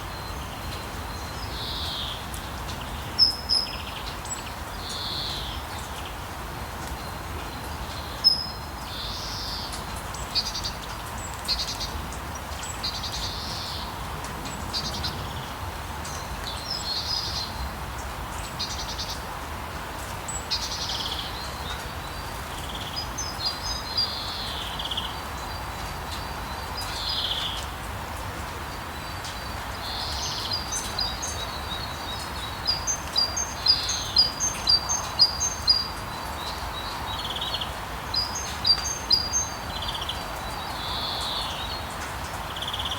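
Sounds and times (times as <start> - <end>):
birds singing: 0.0 - 19.3, 20.2 - 27.9, 28.7 - 42.9
rain hiss: 0.0 - 42.9.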